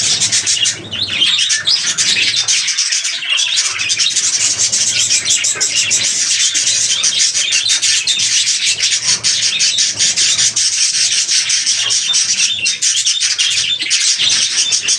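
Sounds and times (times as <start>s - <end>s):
budgerigars chattering: 0.0s - 14.9s.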